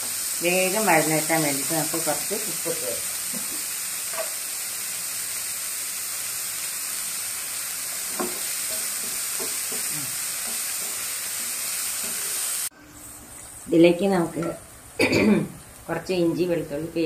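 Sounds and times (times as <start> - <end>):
onions sizzling in oil: 0.0 - 16.6.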